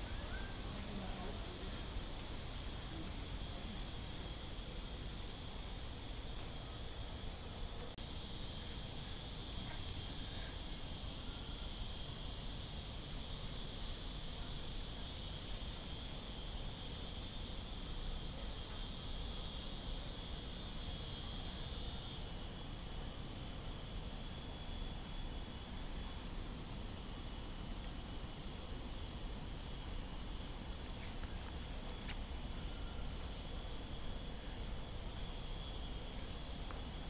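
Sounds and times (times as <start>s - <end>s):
cicadas shrilling: 0.0s - 37.0s.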